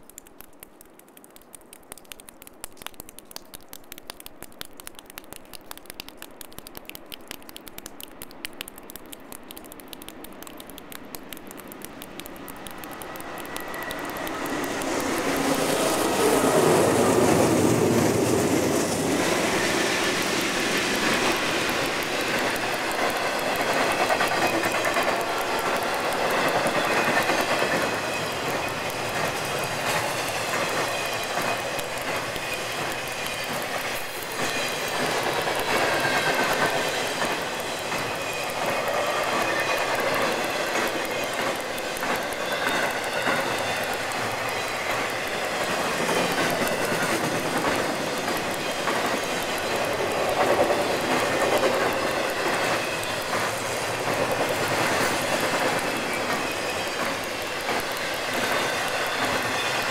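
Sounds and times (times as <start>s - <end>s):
light patter of fine ticks: 0.0s - 59.9s
freight train rolling past: 11.3s - 59.9s.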